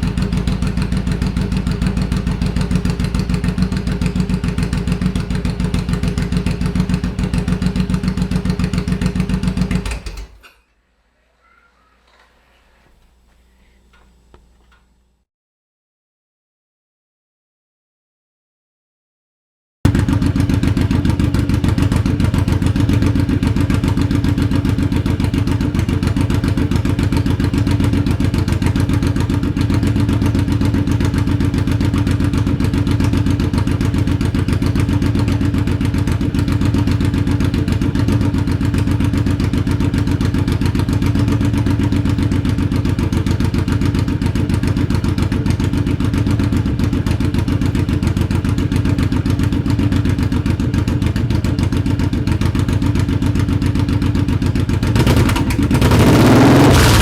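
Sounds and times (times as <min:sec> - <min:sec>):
motorcycle engine idling: 0:00.0 - 0:10.4, 0:19.9 - 0:56.0.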